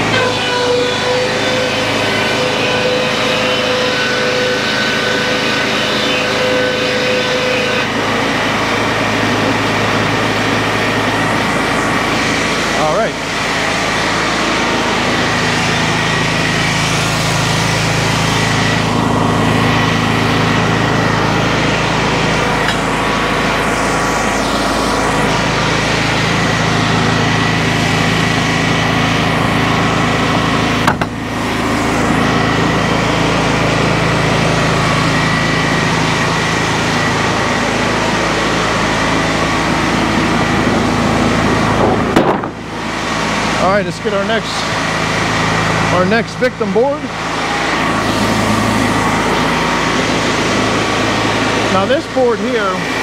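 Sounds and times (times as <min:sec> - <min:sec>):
board edger saw droning: 0:00.0 - 0:53.0.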